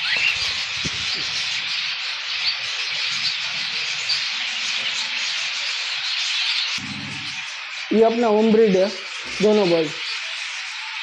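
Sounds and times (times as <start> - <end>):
budgerigars chattering: 0.0 - 11.0
sharp bird chirps: 0.0 - 11.0.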